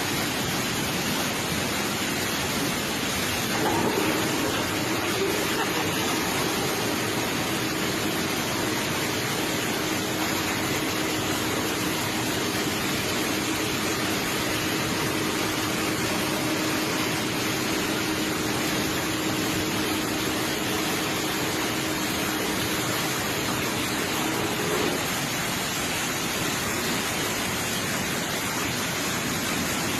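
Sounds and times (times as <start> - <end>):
water rushing: 0.0 - 29.9.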